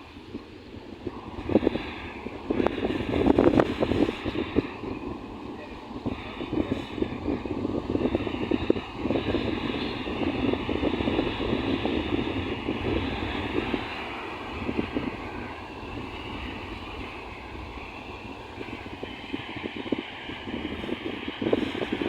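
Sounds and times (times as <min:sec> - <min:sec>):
wind gusting against microphone: 0:00.0 - 0:22.0.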